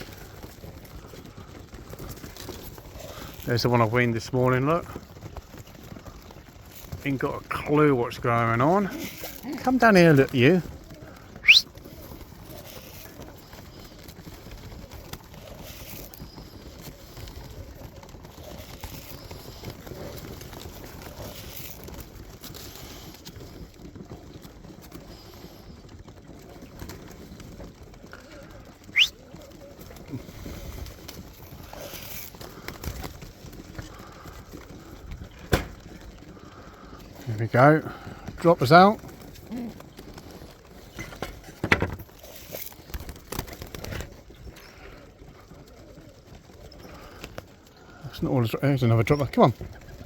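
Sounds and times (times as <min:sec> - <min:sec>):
wing flutters: 0:00.0 - 0:25.9, 0:26.5 - 0:50.0
pigeons tapping: 0:00.0 - 0:50.0.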